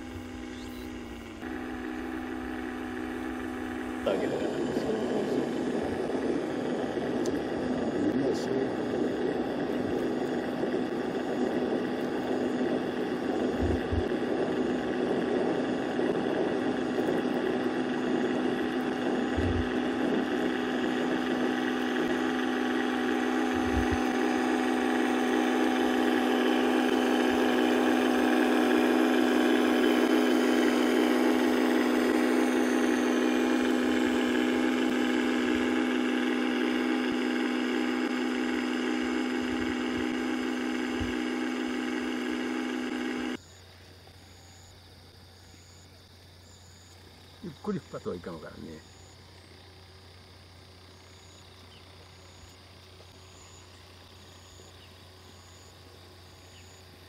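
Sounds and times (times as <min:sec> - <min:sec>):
model boat motor hum: 0:00.0 - 0:57.0.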